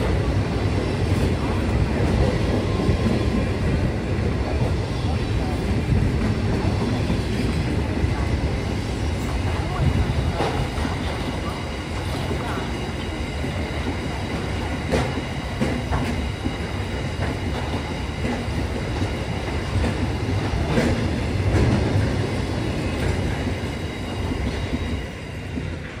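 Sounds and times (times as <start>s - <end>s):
freight train rumble: 0.0s - 26.0s.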